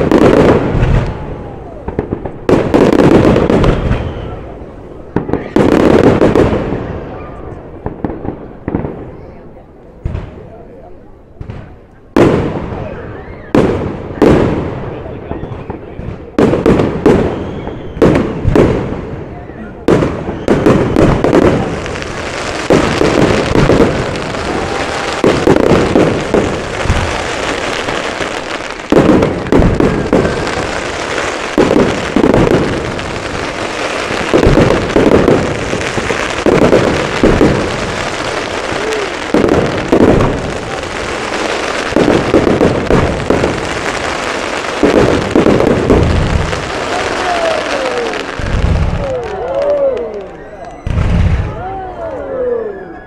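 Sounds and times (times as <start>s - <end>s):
fireworks booming: 0.0s - 10.8s, 11.4s - 52.0s
fireworks crackling: 0.0s - 52.0s.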